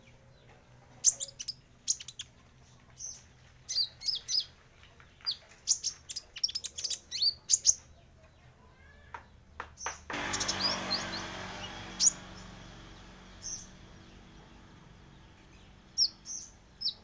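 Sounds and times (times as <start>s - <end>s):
bird chirping and twittering: 0.4s - 4.6s, 5.2s - 8.4s, 9.8s - 17.0s.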